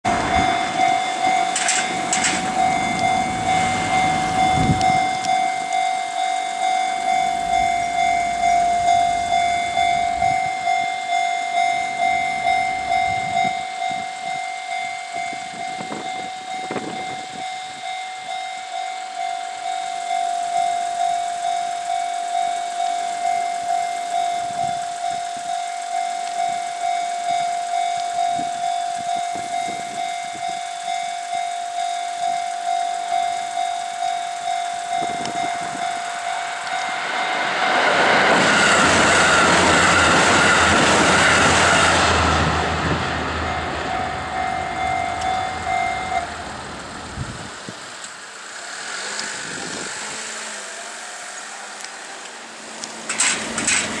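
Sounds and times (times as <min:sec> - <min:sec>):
level crossing warning bell: 0:00.0 - 0:49.1
train passing rush and rumble: 0:00.0 - 0:54.0.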